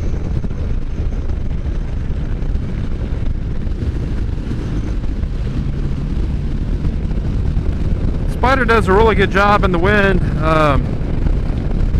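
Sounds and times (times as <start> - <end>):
motorcycle running on road: 0.0 - 11.9
wind buffeting microphone: 0.0 - 11.9.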